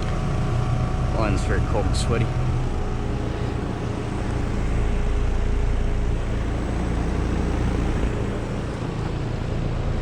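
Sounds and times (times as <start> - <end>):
compressor humming: 0.0 - 10.0
condenser fan rushing: 0.0 - 10.0.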